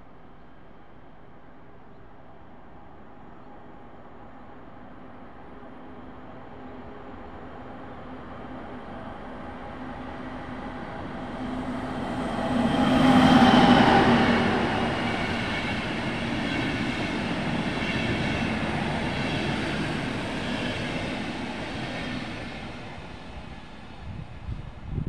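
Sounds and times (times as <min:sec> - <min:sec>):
train passing: 0:02.6 - 0:25.0.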